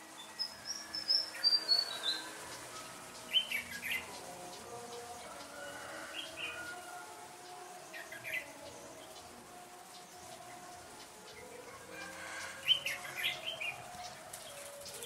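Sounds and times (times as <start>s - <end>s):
small birds calling: 0.0s - 15.0s.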